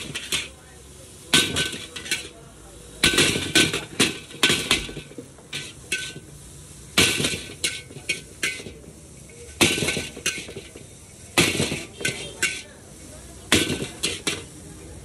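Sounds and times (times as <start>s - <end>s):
frying sizzle: 0.0s - 15.0s
utensils clanging against wok: 0.0s - 15.0s.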